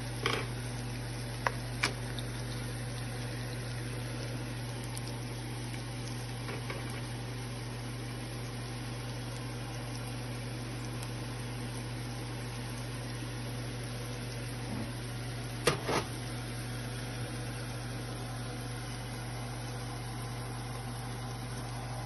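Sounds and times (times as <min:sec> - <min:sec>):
low steady hum: 0:00.0 - 0:22.0
vegetables sizzling in oil: 0:00.0 - 0:22.0.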